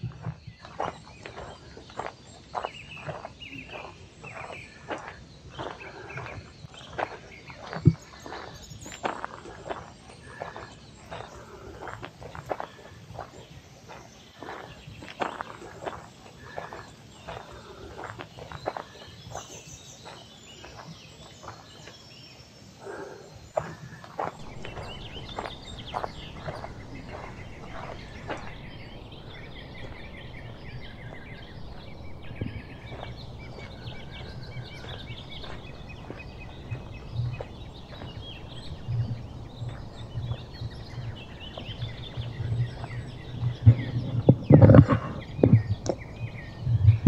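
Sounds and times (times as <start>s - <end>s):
footsteps on gravel: 0.0s - 22.2s, 23.6s - 47.0s
small birds chirping: 0.0s - 47.0s.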